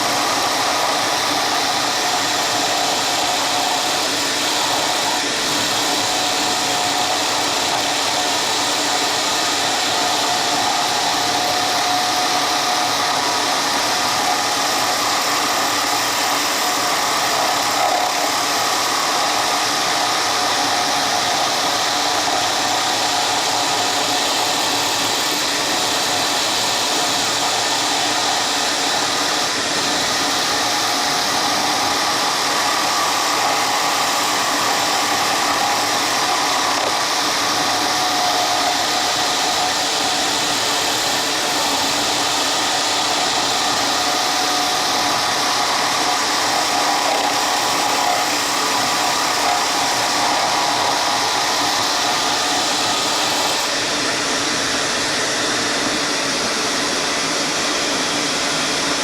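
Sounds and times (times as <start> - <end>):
power tool whining: 0.0 - 59.0.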